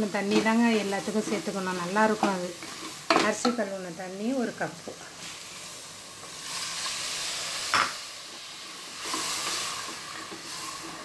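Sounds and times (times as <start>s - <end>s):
water hissing in hot pot: 0.0s - 11.0s.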